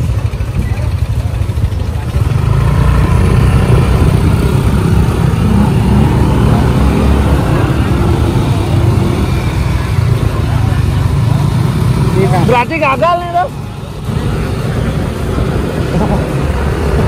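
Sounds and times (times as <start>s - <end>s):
motorbike and scooter engines: 0.0s - 17.0s.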